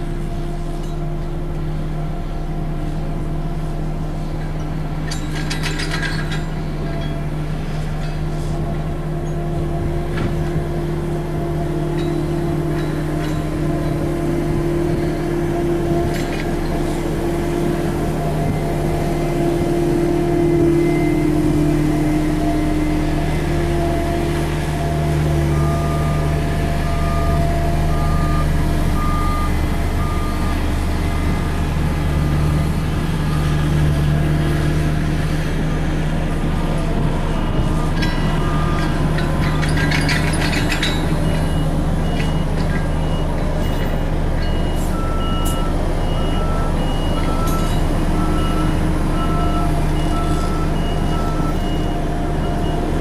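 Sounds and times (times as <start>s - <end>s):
excavator diesel engine under load: 0.0s - 53.0s
reversing alarm beeping: 8.5s - 35.0s, 36.7s - 53.0s.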